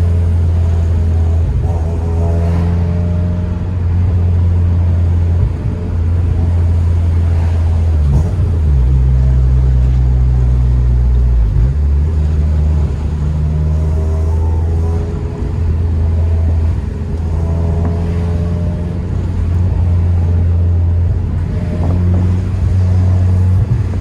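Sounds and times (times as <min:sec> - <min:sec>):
car engine and exhaust droning: 0:00.0 - 0:24.0.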